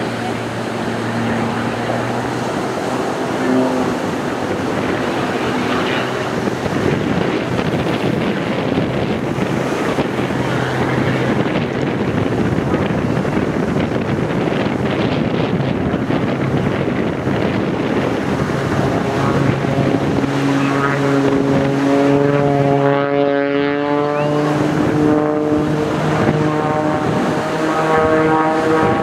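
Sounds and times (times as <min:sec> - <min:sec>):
distant propeller plane drone: 0:00.0 - 0:29.0
wind buffeting microphone: 0:00.0 - 0:29.0.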